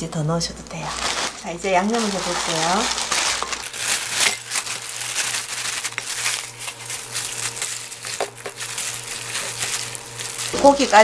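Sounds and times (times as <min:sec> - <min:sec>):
plastic glove and bag crinkling: 0:00.5 - 0:11.0
wet crunches of meat: 0:01.0 - 0:11.0.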